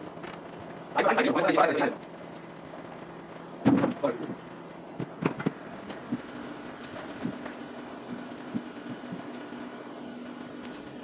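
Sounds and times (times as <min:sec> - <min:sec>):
equipment hum: 0:00.0 - 0:11.0.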